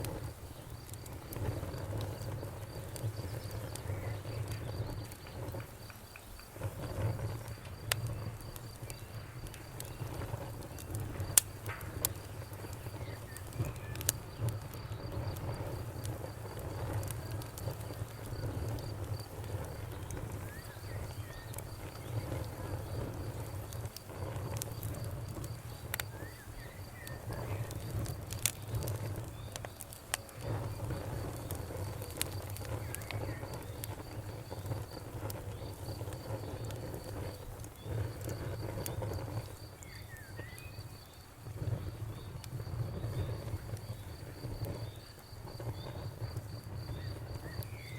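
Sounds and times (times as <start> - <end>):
wood fire crackling and popping: 0.0 - 47.9
cricket chirping: 0.4 - 47.9.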